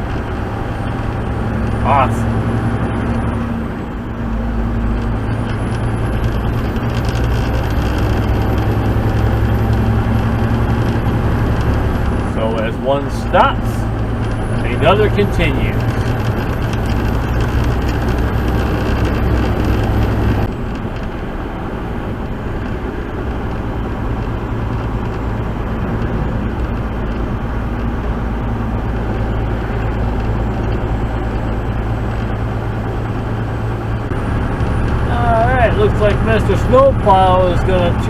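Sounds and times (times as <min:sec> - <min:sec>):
road noise: 0:00.0 - 0:38.0
truck engine drone: 0:00.0 - 0:38.0.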